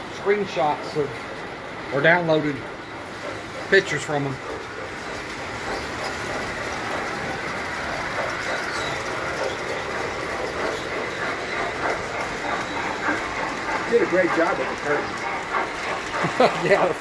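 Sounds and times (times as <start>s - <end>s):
toy trains clattering on metal track: 0.0s - 17.0s.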